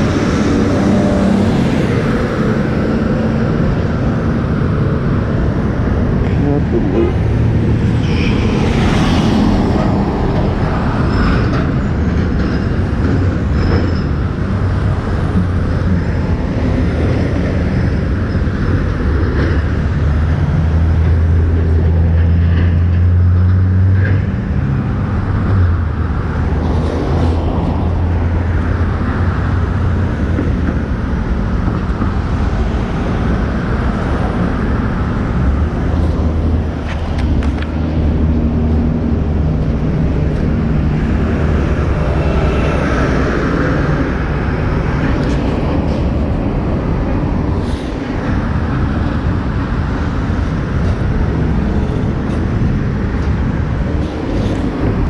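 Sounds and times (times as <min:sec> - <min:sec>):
road and traffic noise: 0:00.0 - 0:55.0.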